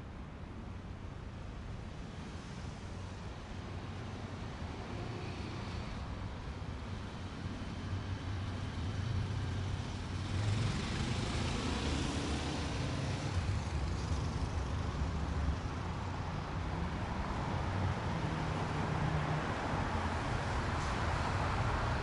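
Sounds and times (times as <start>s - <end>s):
passing cars: 1.8s - 22.0s.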